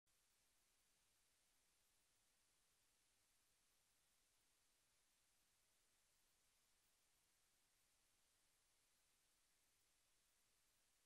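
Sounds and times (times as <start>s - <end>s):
faint steady hiss: 0.1s - 11.0s.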